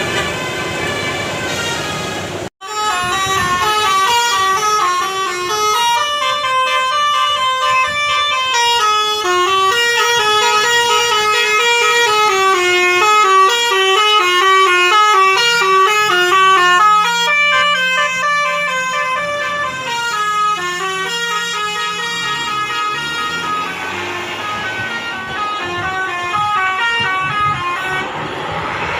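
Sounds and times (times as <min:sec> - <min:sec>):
multi-tone bus horn melody: 0:00.0 - 0:28.9.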